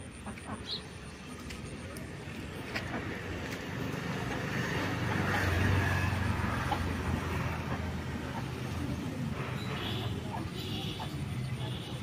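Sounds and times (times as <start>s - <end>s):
passing vehicle engine rumble: 0.0s - 12.0s.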